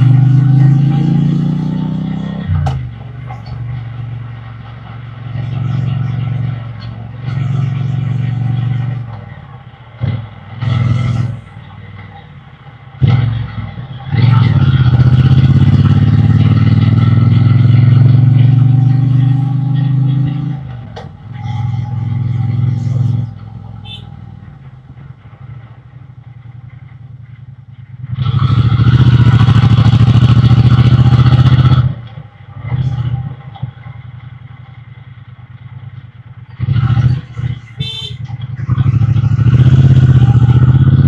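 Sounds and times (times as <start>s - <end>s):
motorcycle engine accelerating: 0.0s - 9.4s, 10.0s - 12.1s, 12.9s - 41.0s.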